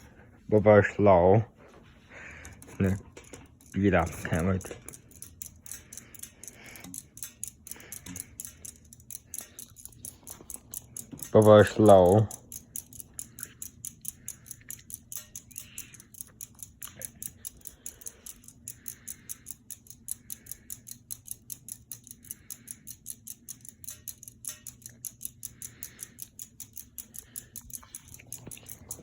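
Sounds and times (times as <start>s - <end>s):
ceiling fan motor hum: 0.0s - 29.0s
fast even ticking: 2.5s - 29.0s.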